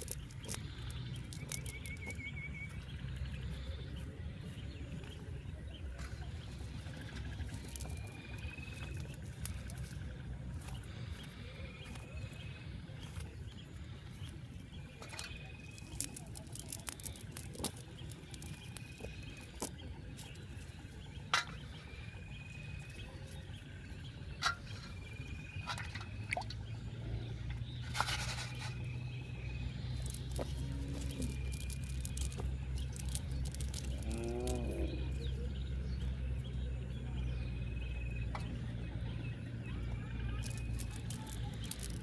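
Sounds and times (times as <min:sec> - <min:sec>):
low steady rumble: 0:00.0 - 0:42.0.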